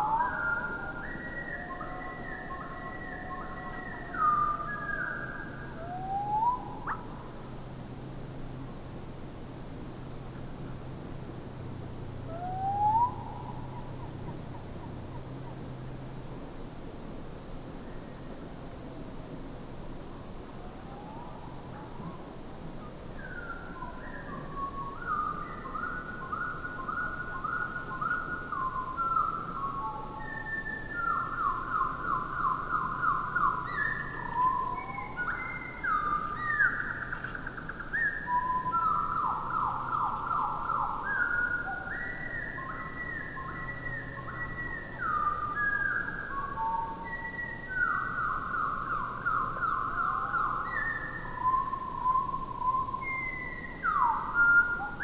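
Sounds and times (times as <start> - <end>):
slowed birdsong whistles and trills: 0.0 - 55.0.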